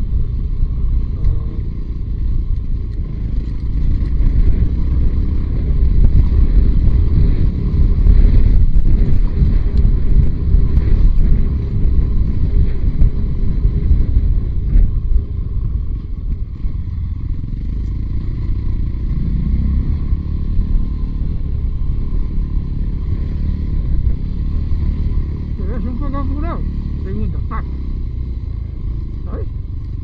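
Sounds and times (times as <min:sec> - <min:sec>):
motorcycle engine accelerating: 0:00.0 - 0:30.0
wind: 0:00.0 - 0:30.0.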